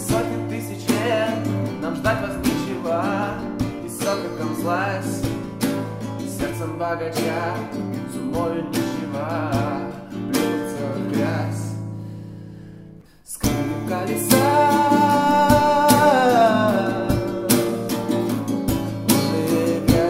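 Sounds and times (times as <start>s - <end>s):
young man singing: 0.0s - 11.9s, 13.2s - 20.0s
acoustic guitar strumming: 0.0s - 20.0s.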